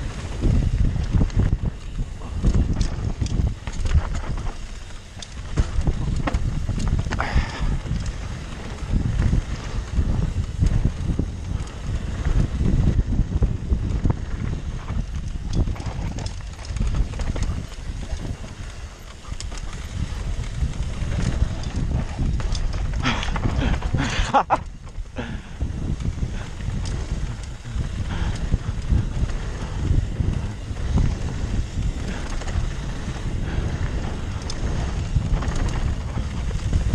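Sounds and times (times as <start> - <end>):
bike rattling and knocking: 0.0 - 36.9
tyres crunching over dirt: 0.0 - 36.9.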